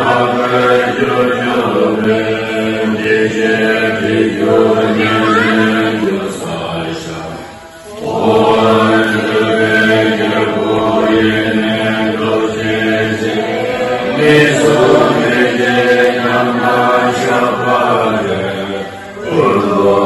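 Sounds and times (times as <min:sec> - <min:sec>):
congregation chanting in unison: 0:00.0 - 0:20.0.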